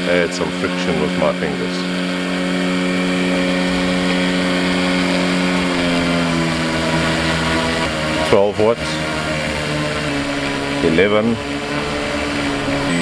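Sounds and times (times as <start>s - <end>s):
small motor humming and whining: 0.0s - 13.0s.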